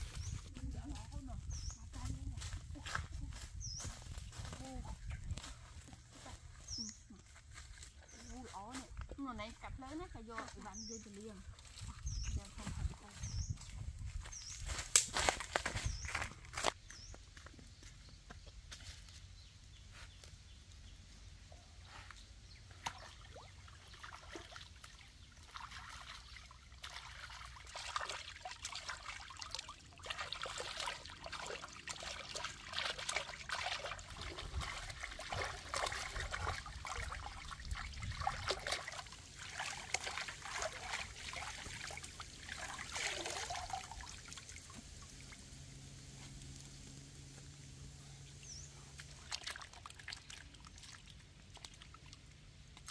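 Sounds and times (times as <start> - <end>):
water splashing and trickling: 0.0 - 17.2, 20.6 - 52.9.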